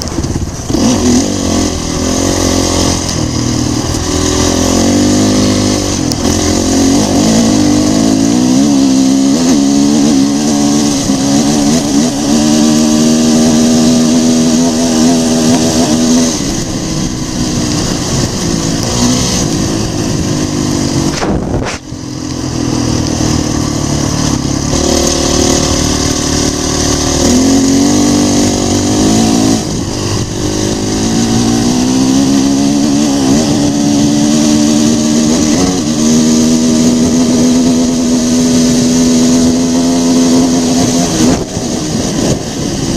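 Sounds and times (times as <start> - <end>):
dirt bike engine running hard: 0.0 - 42.9.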